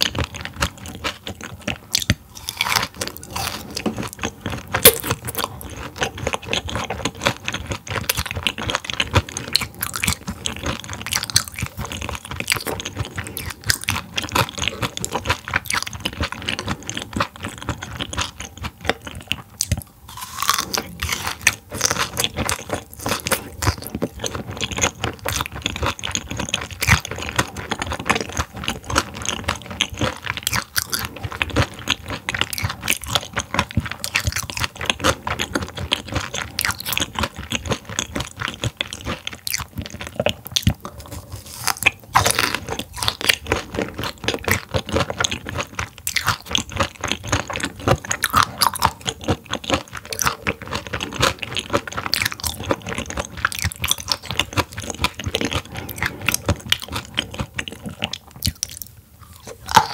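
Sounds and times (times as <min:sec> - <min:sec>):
crunchy chewing of raw fish: 0:00.0 - 0:59.9.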